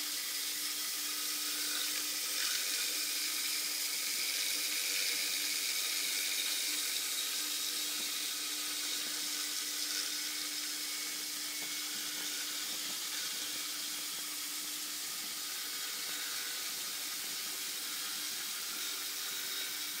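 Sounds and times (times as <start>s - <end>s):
milling spindle hum: 0.0s - 20.0s.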